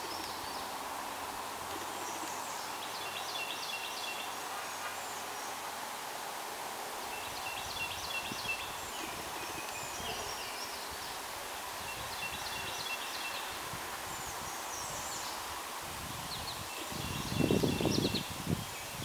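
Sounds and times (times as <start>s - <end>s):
songbirds chirping and trilling: 0.0s - 19.0s
steady outdoor hiss: 0.0s - 19.0s.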